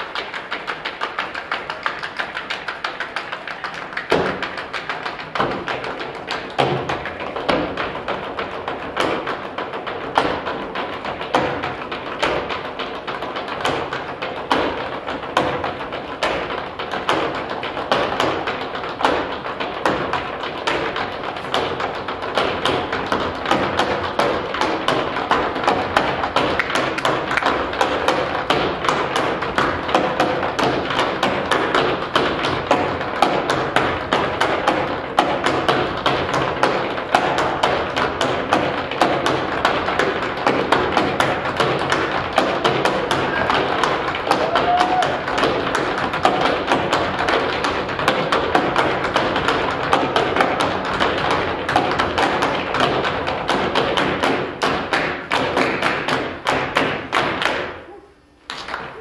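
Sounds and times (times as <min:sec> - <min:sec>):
tap shoes on wooden floor: 0:00.0 - 0:57.7.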